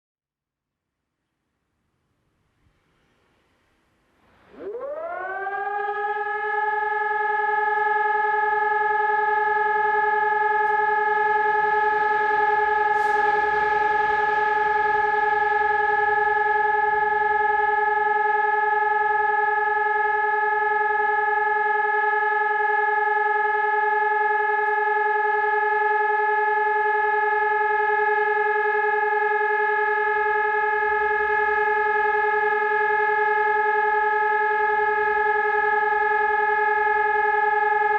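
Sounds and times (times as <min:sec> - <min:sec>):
electronic siren steady tone: 0:04.4 - 0:37.9.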